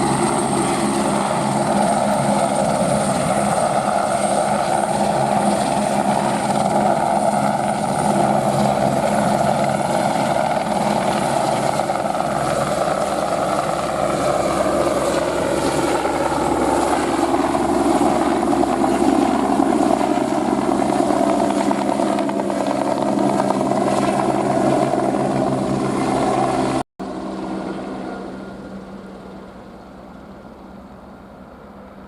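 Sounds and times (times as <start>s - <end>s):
helicopter flying overhead: 0.0s - 32.0s.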